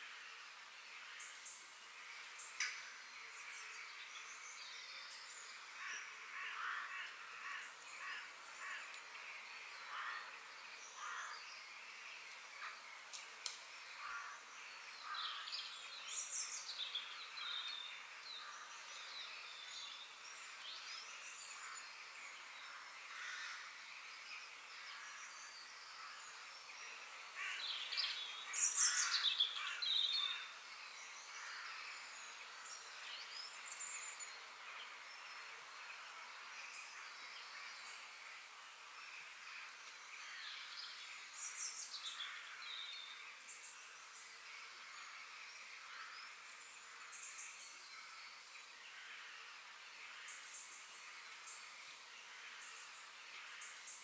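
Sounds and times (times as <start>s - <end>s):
steady high outdoor hiss: 0.0s - 54.0s
wild birds calling and chirping: 0.0s - 54.0s.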